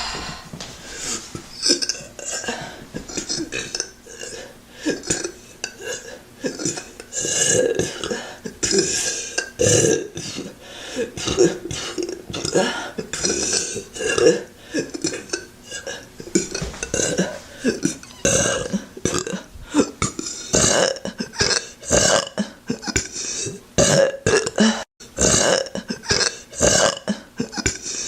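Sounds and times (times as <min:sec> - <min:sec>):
woman burping: 0:01.7 - 0:10.5, 0:11.2 - 0:27.9.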